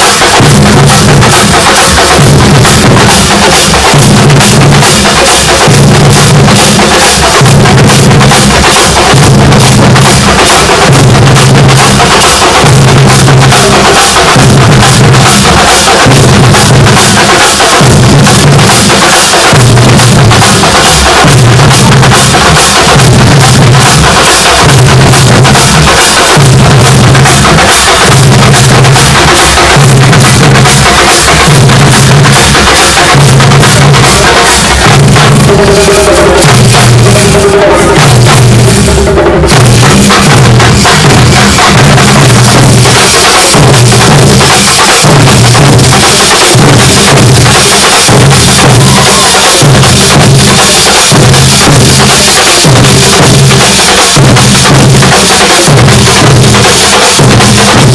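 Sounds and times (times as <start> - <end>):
massed drumming: 0.0 - 57.9.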